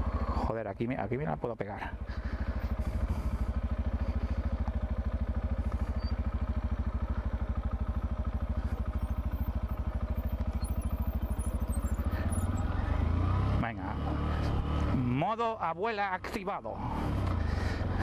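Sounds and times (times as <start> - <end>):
motorcycle engine running at low revs: 0.0 - 18.0.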